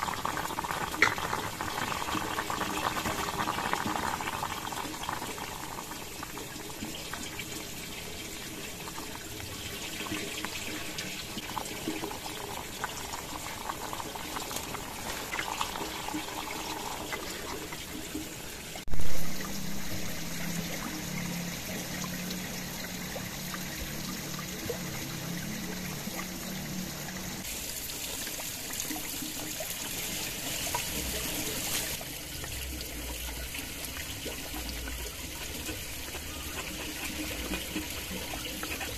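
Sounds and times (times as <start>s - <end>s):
rice boiling and frothing: 0.0s - 38.9s.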